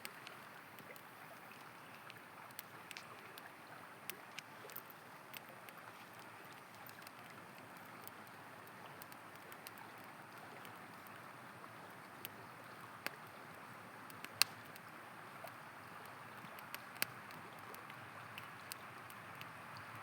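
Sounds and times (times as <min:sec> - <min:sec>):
campfire wood crackling: 0:00.0 - 0:20.0.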